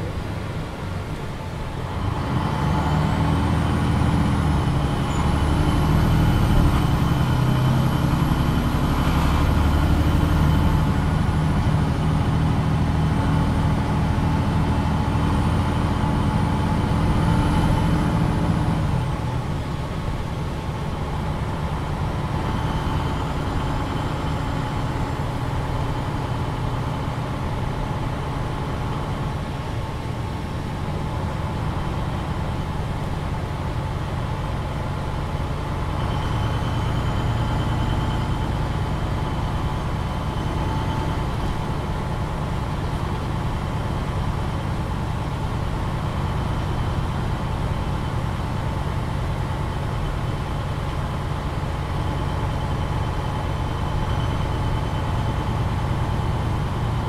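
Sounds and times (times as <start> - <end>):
bus diesel engine pulling: 0.0 - 57.0.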